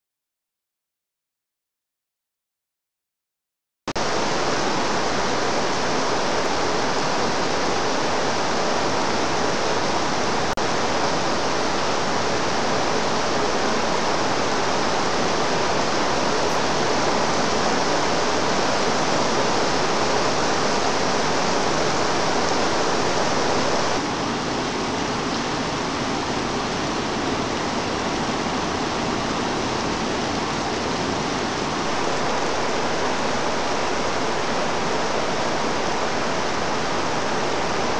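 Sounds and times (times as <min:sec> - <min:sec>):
torrential rain on foliage and water: 0:04.0 - 0:37.9.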